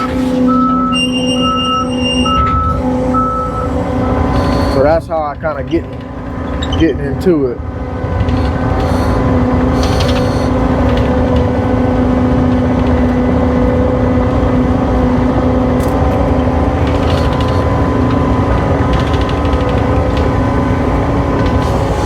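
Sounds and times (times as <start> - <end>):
diesel engine running with whine: 0.0 - 22.0.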